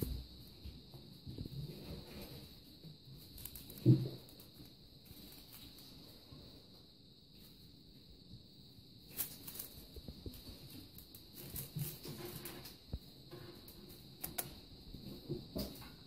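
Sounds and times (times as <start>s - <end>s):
kittens scuffling on a mat: 0.0s - 7.7s, 9.1s - 16.0s.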